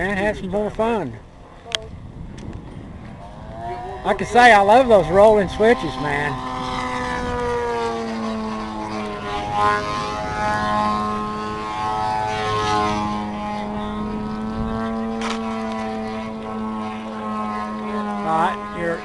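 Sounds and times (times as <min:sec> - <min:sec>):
model airplane engine buzzing: 0:00.0 - 0:19.0.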